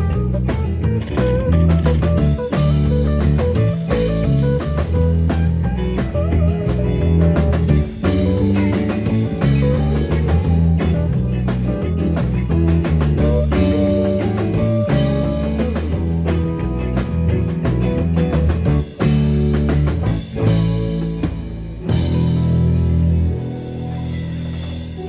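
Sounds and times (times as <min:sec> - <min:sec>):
electric guitar: 0:00.0 - 0:25.0
rock band instrumental: 0:00.0 - 0:25.0.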